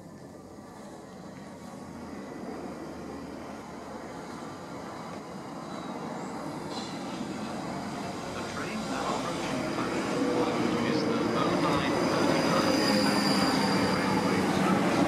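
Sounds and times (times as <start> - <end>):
electric train arriving: 0.0 - 15.0.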